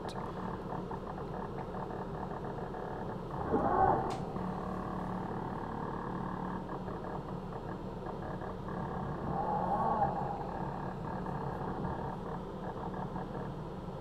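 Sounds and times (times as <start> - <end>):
servo hum and whirr: 0.0 - 14.0.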